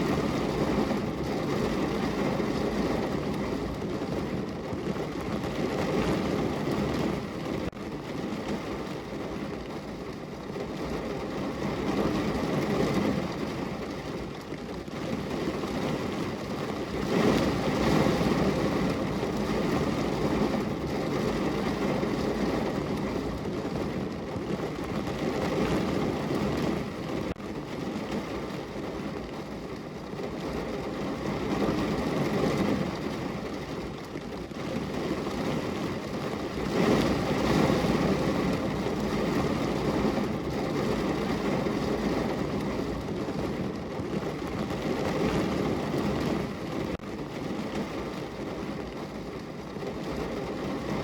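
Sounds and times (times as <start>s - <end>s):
heavy rain on car roof: 0.0s - 51.0s.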